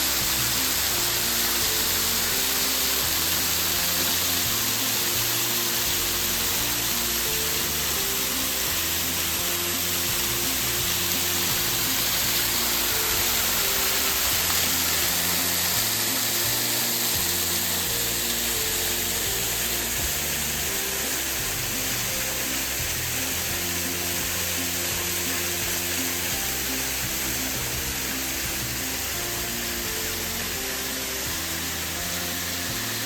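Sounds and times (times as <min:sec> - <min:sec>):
background music with low notes: 0:00.0 - 0:33.0
waterfall rushing hiss: 0:00.0 - 0:33.0.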